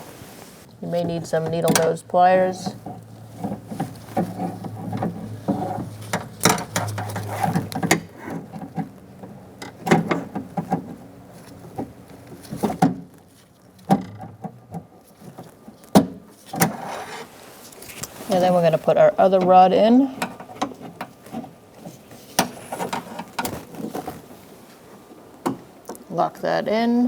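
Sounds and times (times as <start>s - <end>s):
rustling handling: 0.0s - 27.0s.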